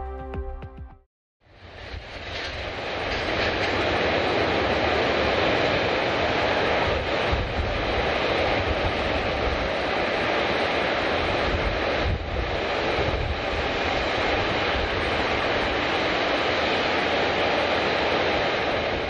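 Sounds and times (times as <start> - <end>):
jet airliner engines at takeoff: 1.5 - 19.0.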